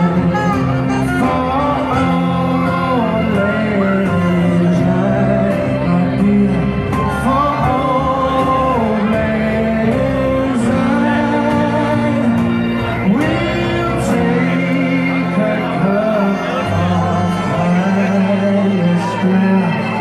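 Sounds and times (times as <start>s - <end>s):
music accompaniment: 0.0s - 20.0s
person singing: 0.0s - 20.0s.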